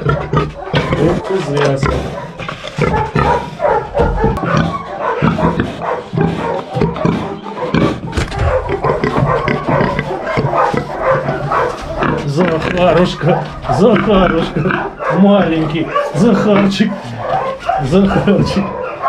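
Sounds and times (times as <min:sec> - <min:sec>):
pig grunting: 0:00.0 - 0:19.0.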